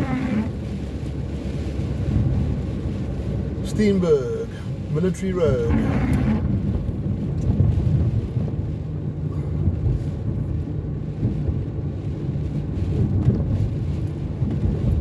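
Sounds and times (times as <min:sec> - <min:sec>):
car driving on wet road: 0:00.0 - 0:15.0
engine hum: 0:00.0 - 0:15.0.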